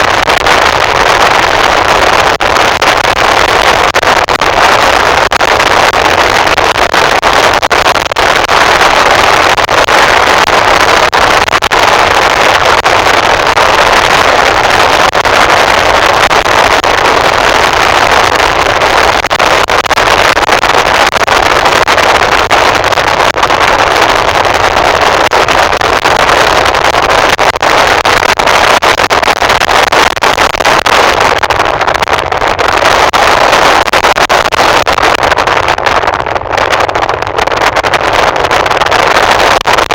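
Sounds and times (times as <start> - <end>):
wind and road noise: 0.0 - 39.9
wind buffeting on microphone: 0.0 - 39.9.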